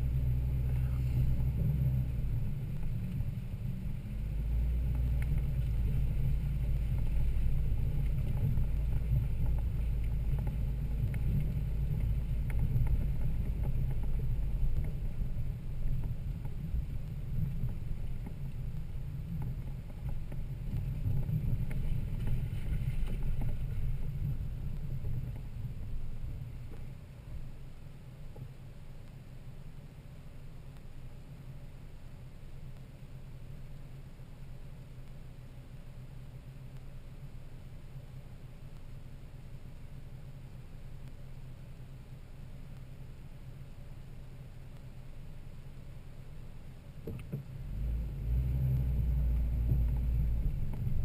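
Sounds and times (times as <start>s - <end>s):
vehicle rumbling off-road: 0.0s - 51.0s
faint ticks: 0.6s - 3.3s, 4.7s - 51.0s.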